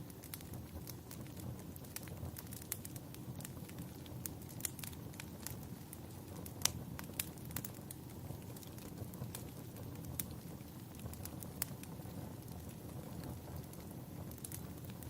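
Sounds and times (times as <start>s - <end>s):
low rumble of burning: 0.0s - 15.0s
wood fire crackling: 0.0s - 15.0s
sharp pops of fire: 0.1s - 15.0s.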